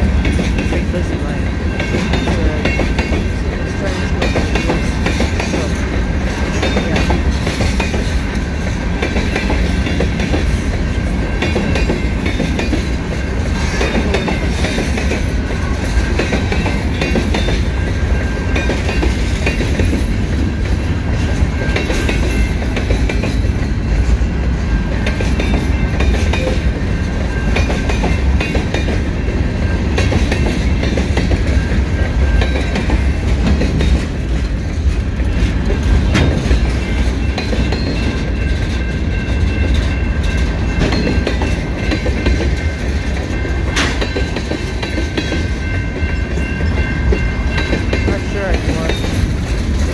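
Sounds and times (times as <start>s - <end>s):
freight train rolling past: 0.0s - 49.9s
wheels clattering over rails: 0.0s - 49.9s.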